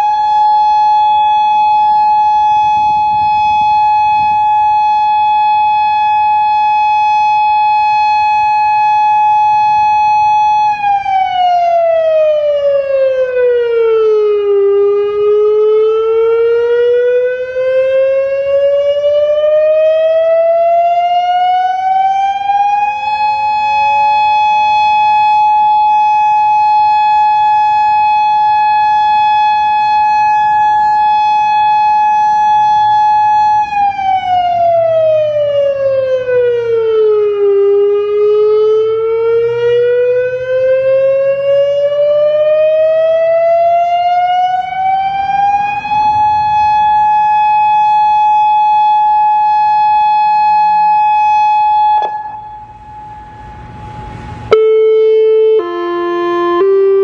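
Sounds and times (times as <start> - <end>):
fainter second siren tone: 0.0 - 57.0
outdoor warning siren: 0.0 - 57.0.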